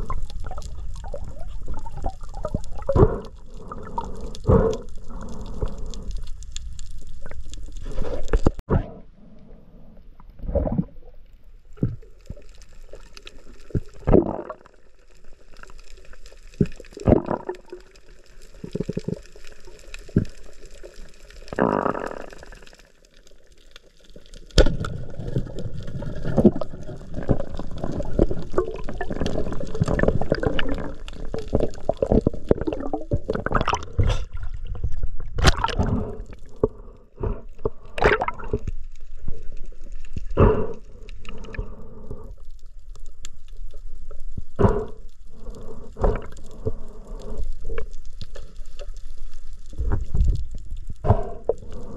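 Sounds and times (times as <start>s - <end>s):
water splashing and gurgling: 0.0s - 9.0s, 10.3s - 42.3s, 43.0s - 51.9s.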